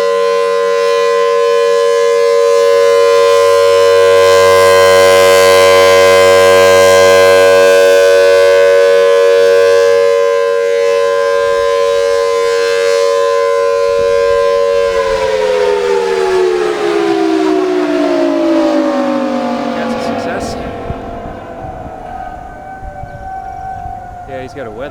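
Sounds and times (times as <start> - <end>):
tornado siren winding down: 0.0 - 24.9.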